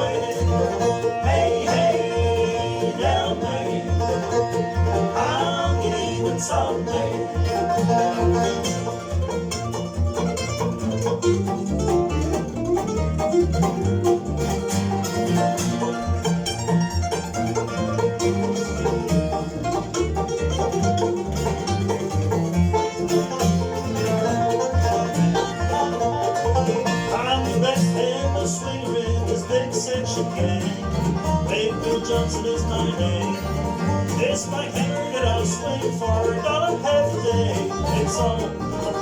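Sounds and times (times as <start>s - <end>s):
banjo: 0.0s - 39.0s
bluegrass band playing: 0.0s - 39.0s
guitar: 0.0s - 39.0s
steady bass line: 0.0s - 39.0s.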